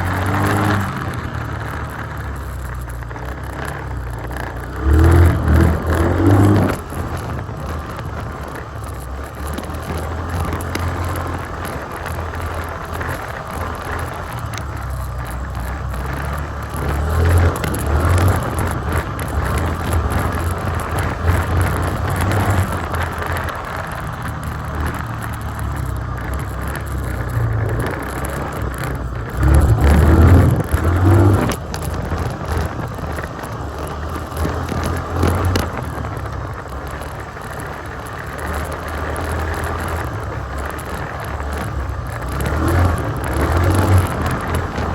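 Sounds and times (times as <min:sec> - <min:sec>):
quad bike engine running: 0:00.0 - 0:44.9.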